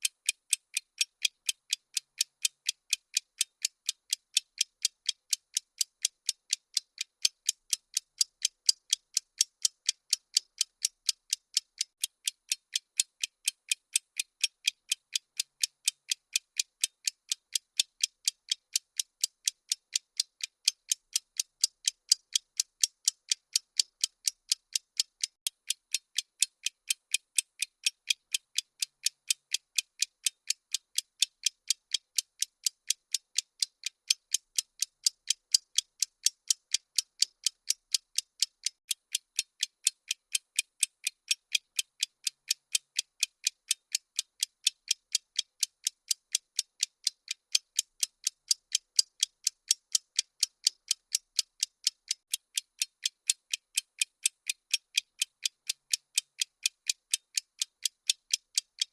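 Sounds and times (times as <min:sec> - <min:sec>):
timer ticking: 0:00.0 - 0:58.9.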